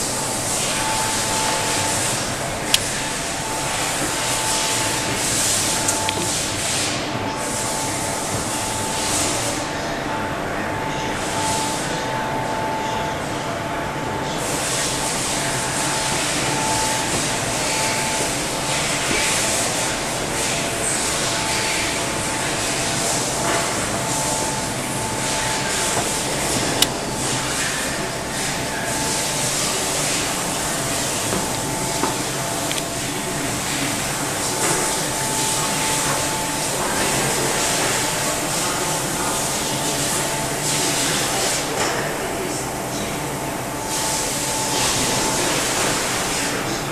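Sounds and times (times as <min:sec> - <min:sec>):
machine whine: 0:00.0 - 0:46.9
printing press drone: 0:00.0 - 0:46.9.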